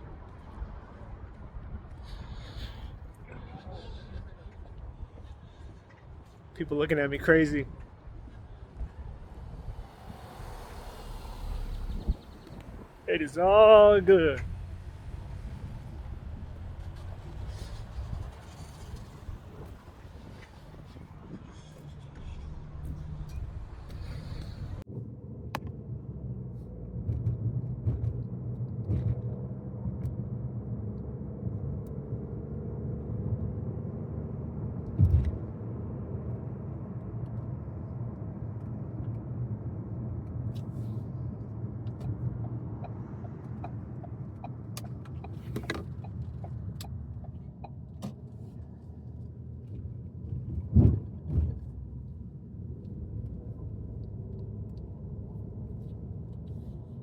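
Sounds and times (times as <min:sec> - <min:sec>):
low rumble of car traffic: 0:00.0 - 0:57.0.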